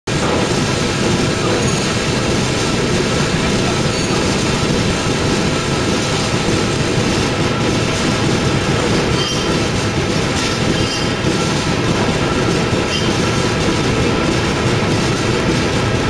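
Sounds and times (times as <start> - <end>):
machine rumble and clatter: 0.1 - 16.0.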